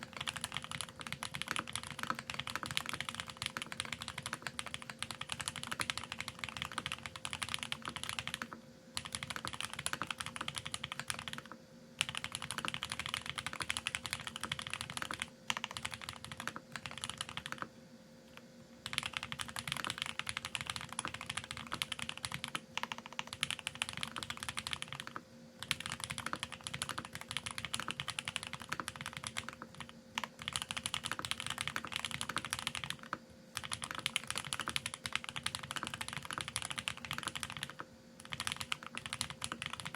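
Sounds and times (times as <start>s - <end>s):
fast typing on mechanical keyboard: 0.0s - 17.7s, 18.8s - 39.9s.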